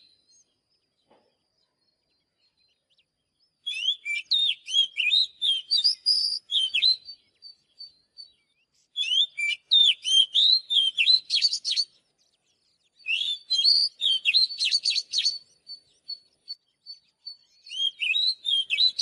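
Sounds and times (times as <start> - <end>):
bird singing whistles and chirps: 0.0 - 19.0.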